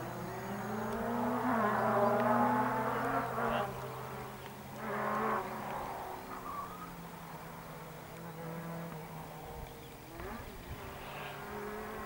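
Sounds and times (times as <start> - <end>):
distant car engine buzzing: 0.0 - 12.0.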